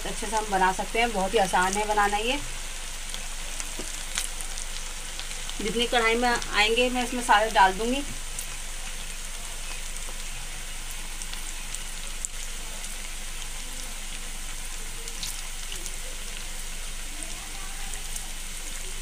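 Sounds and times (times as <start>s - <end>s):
food deep-frying in bubbling oil: 0.0s - 19.0s.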